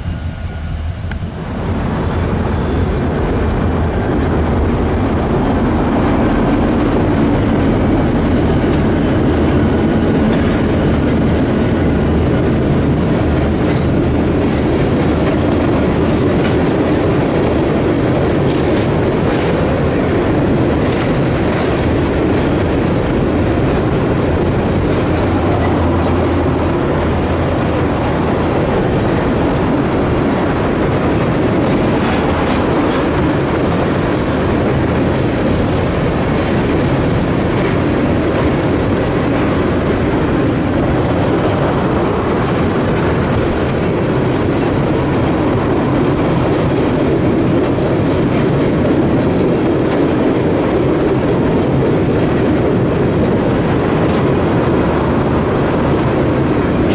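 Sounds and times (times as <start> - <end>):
train wheels on rails: 0.0 - 56.9.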